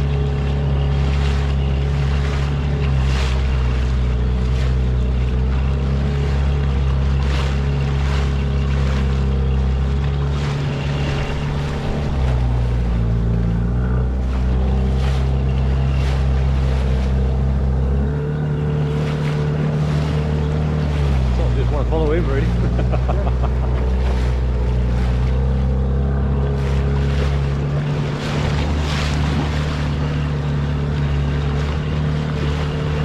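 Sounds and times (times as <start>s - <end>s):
outboard motor running: 0.0s - 33.0s
water slapping against hull: 0.0s - 33.0s.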